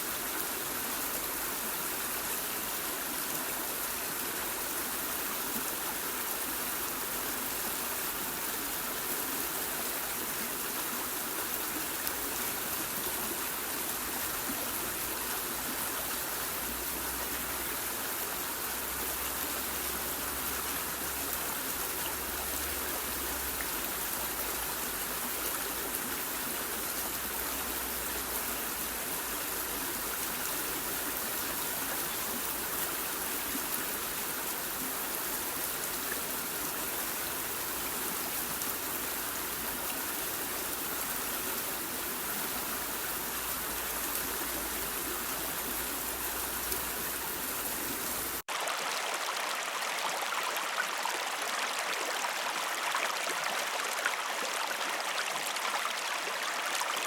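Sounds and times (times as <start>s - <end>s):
waterfall rushing and splashing: 0.0s - 57.0s.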